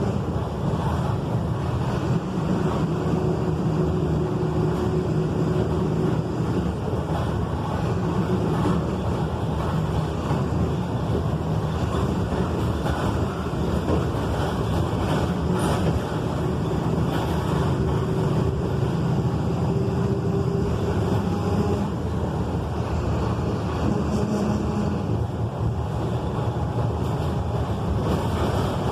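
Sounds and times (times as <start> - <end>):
rushing wind-like noise: 0.0 - 28.9.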